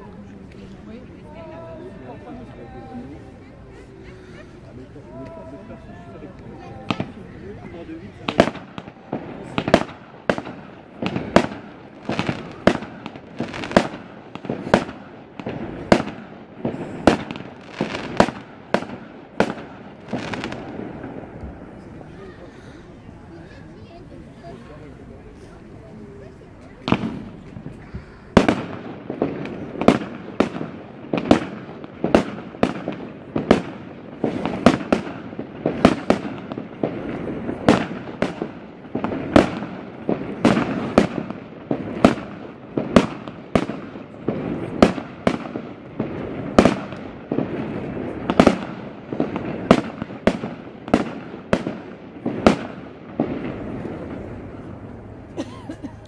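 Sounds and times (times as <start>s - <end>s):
fireworks bursting with sharp bangs: 0.0s - 56.0s.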